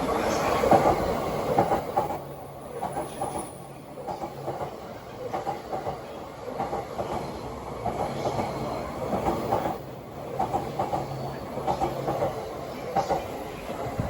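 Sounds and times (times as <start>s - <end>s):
train wheels clattering: 0.4s - 14.0s.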